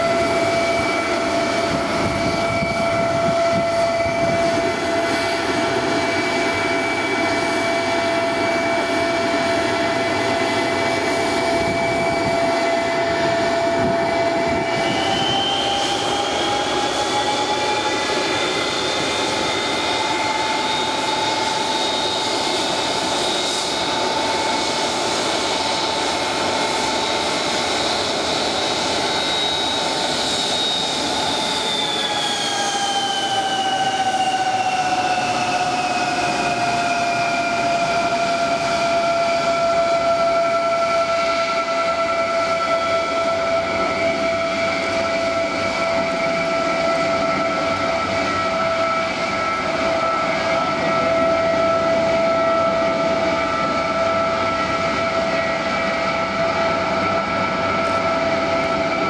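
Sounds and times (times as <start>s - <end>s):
jet engines whining and roaring: 0.0s - 59.0s.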